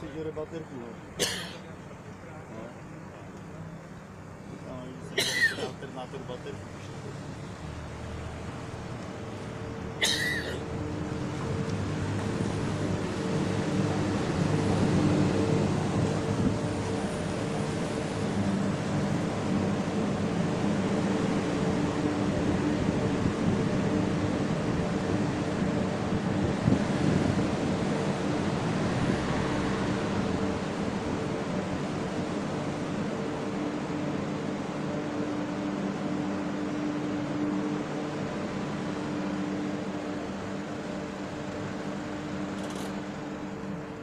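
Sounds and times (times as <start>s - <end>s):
car engine and tyre hum: 0.0s - 5.1s, 5.8s - 44.0s.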